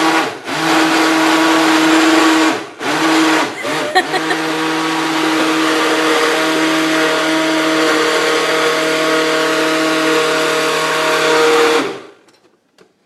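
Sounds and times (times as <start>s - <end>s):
electric blender running: 0.0s - 12.2s.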